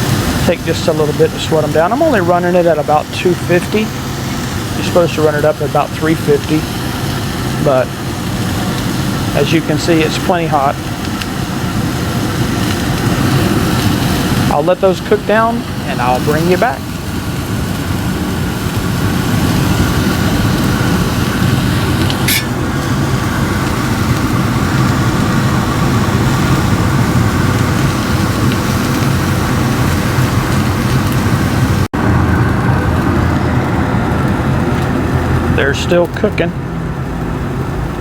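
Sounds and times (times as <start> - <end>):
onions sizzling in oil: 0.0 - 32.2
steady low hum: 0.0 - 38.0.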